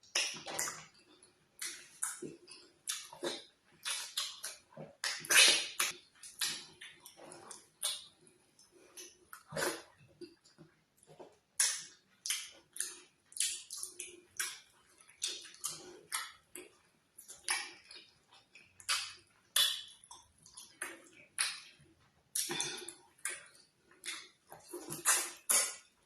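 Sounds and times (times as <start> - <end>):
wet chewing and slurping: 0.0 - 26.0.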